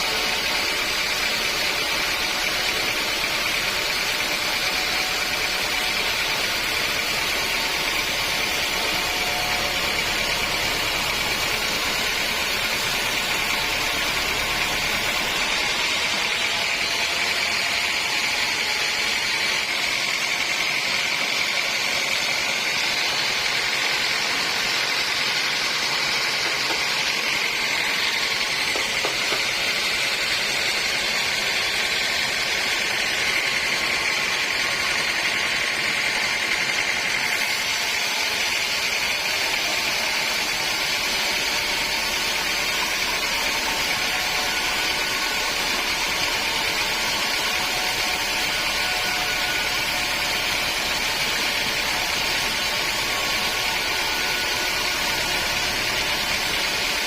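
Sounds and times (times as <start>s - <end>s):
sawmill machinery whine and hiss: 0.0s - 57.0s.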